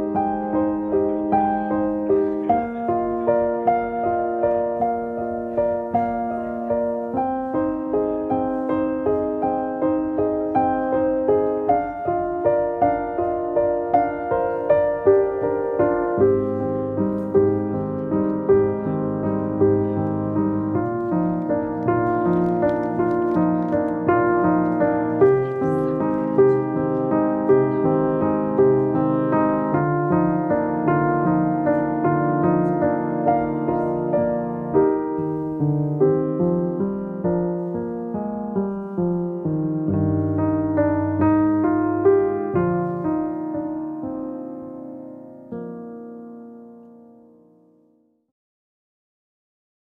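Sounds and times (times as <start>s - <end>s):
slow piano notes: 0.0s - 48.2s.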